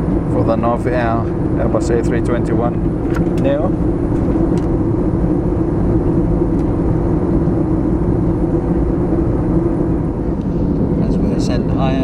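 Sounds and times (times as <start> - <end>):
low hum of jet engines: 0.0 - 12.0
rush of air in aircraft cabin: 0.0 - 12.0.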